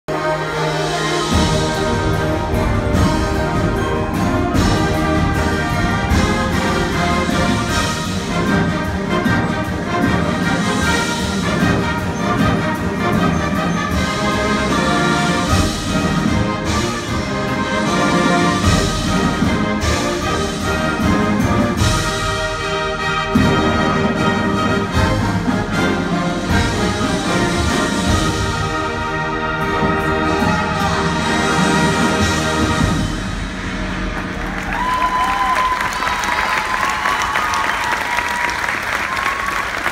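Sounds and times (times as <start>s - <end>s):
school concert band playing: 0.0s - 39.9s
trombones: 0.1s - 34.8s
trumpets: 0.1s - 39.9s.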